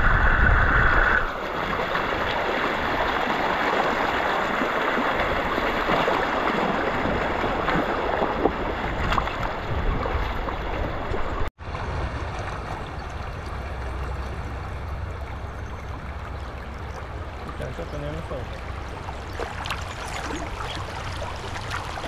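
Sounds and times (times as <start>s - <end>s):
stream water rushing: 0.1s - 22.0s.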